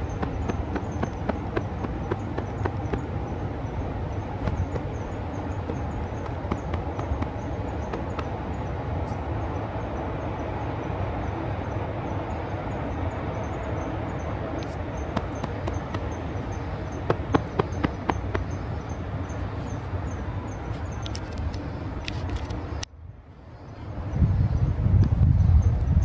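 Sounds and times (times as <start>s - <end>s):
outdoor background hum: 0.0s - 26.0s.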